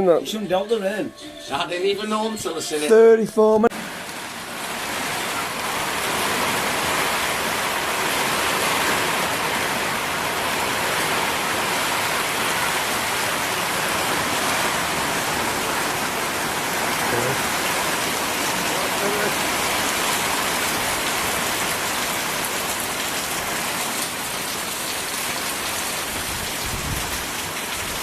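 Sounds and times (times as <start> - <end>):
heavy rain falling: 3.7 - 28.0.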